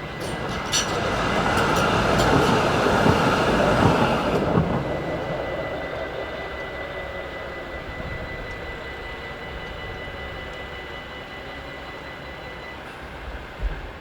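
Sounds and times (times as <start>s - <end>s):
level-crossing warning bell: 0.0s - 13.5s
train rumble: 0.0s - 14.0s.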